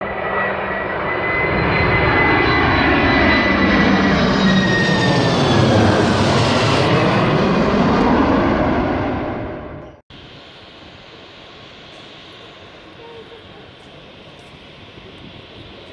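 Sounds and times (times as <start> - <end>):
jet engines roaring: 0.0 - 15.9.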